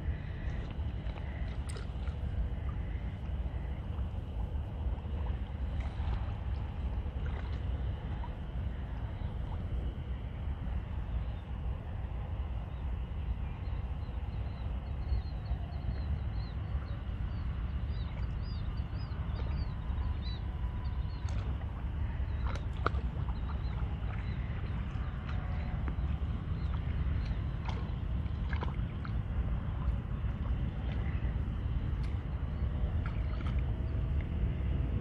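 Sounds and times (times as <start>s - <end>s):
low outdoor rumble: 0.0s - 35.0s
wind on microphone: 0.0s - 35.0s.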